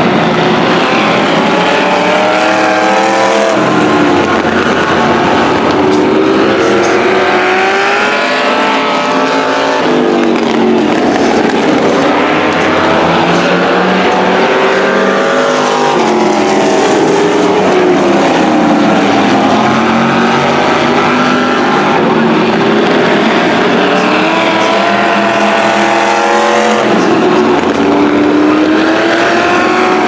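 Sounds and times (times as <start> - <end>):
race car engines passing: 0.0 - 30.0.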